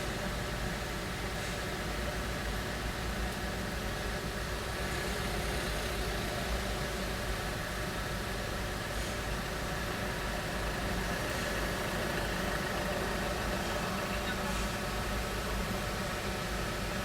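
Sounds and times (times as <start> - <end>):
car engines idling: 1.7 - 17.0.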